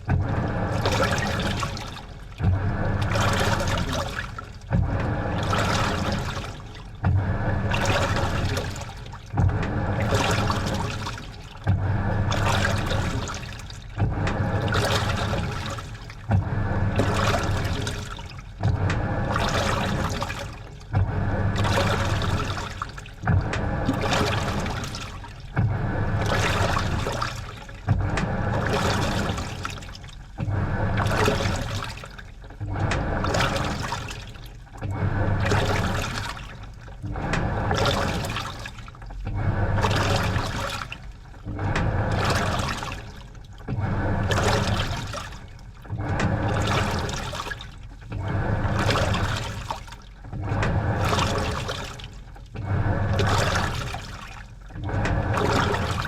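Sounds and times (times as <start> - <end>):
washing machine motor humming: 0.0 - 56.0
water sloshing in tub: 0.0 - 56.0.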